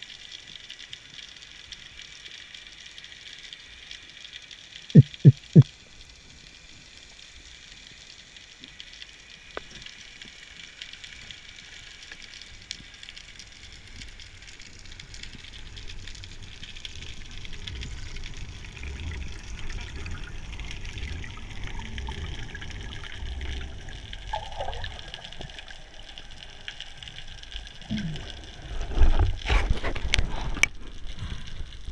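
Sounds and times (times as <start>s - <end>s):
faint crackling hiss: 0.0s - 31.9s
low rumble of moving water: 0.0s - 31.9s
water rushing and bubbles gurgling: 0.0s - 31.9s.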